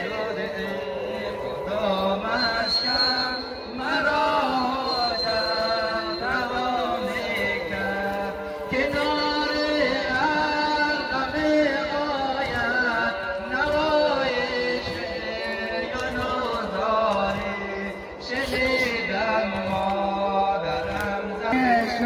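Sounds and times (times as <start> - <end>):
man chanting a lament: 0.0 - 22.0.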